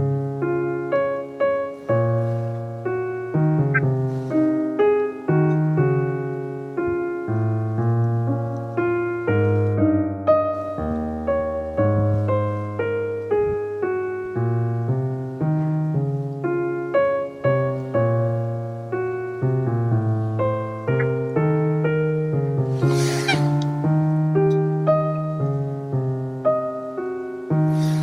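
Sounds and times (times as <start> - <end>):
soft piano music: 0.0 - 28.0.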